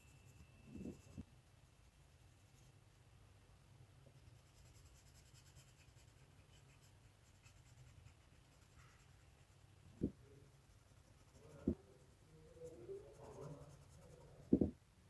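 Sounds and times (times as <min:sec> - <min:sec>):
pencil scratching on paper: 0:00.0 - 0:02.7, 0:04.2 - 0:14.7
low steady hum: 0:00.0 - 0:15.0.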